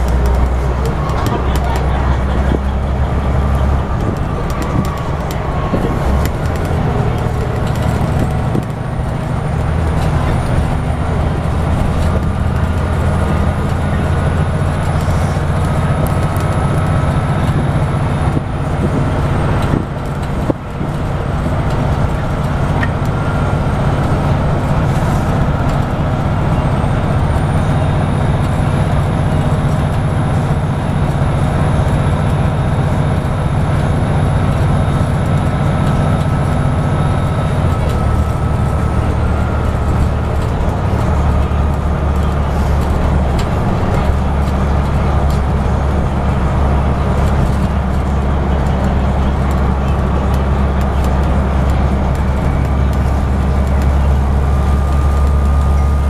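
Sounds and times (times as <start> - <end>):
bus engine drone: 0.0 - 56.0
tyre and road noise: 0.0 - 56.0.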